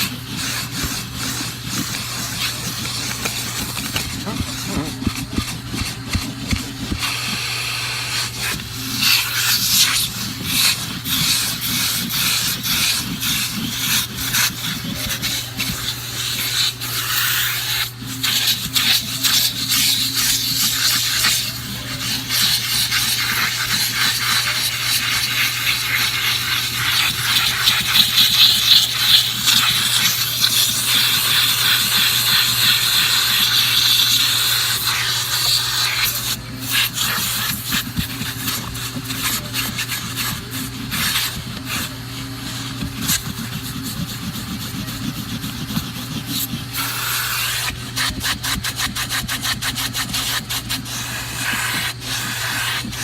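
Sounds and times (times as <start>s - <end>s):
nozzle scrubbing on carpet: 0.0s - 53.0s
vacuum cleaner humming: 0.0s - 53.0s.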